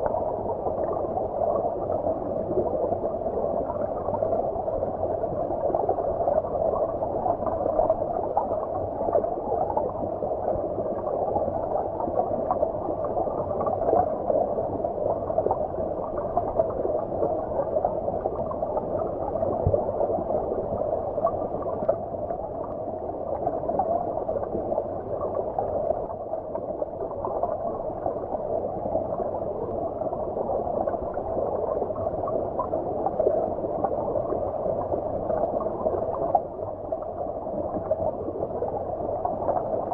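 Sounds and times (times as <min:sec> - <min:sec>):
muffled underwater stream rush: 0:00.0 - 0:39.9.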